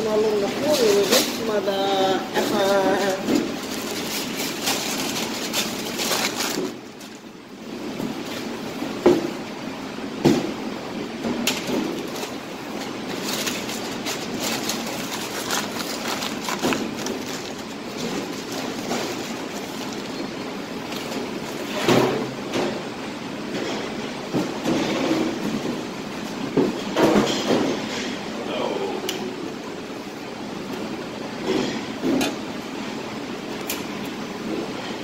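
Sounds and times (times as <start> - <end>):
kitchen background noise: 0.0 - 35.0.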